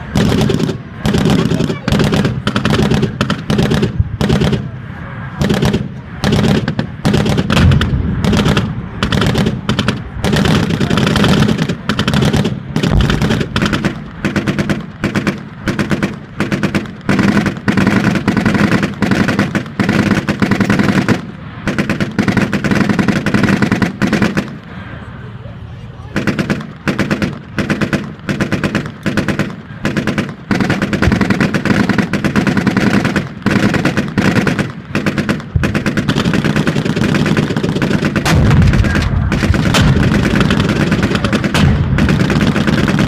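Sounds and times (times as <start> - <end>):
machine guns firing: 0.0 - 4.8, 5.4 - 24.6, 26.2 - 43.0.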